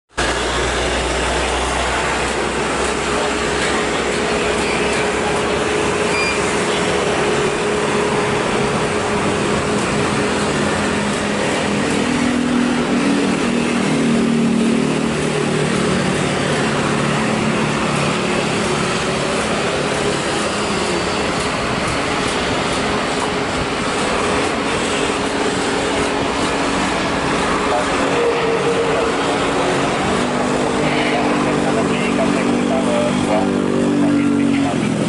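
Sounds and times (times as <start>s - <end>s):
road traffic roar: 0.1s - 35.0s
vehicle engine passing close: 0.2s - 35.0s.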